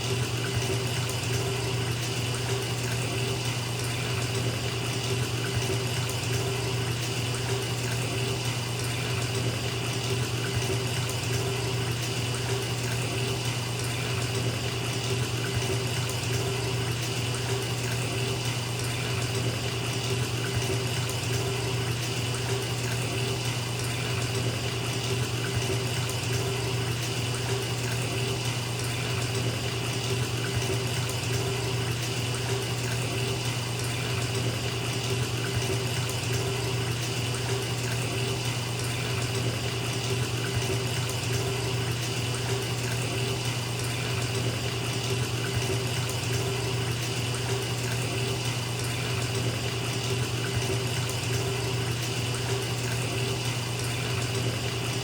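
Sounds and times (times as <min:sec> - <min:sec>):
water pouring into bathtub: 0:00.0 - 0:55.0.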